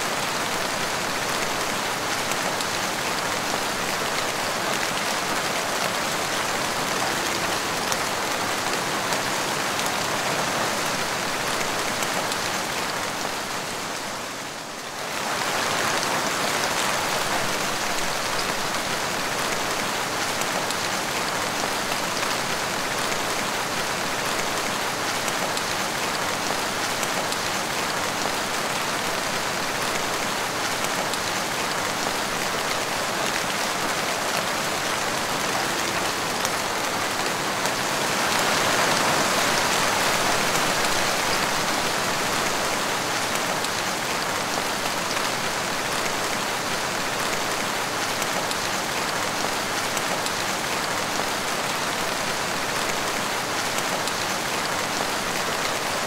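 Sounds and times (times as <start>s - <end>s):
rain splashing on tiled floor: 0.1s - 56.0s.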